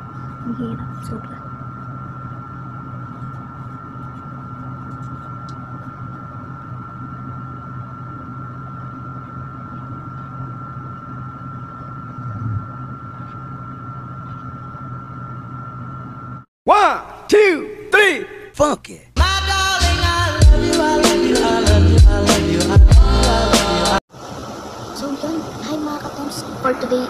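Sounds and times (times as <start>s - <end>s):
electric fan motor hum: 0.0s - 16.5s, 19.3s - 27.0s.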